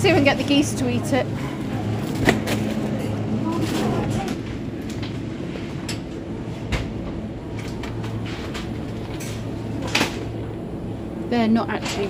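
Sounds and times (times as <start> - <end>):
refrigerated cabinets and ventilation hum: 0.0 - 12.0.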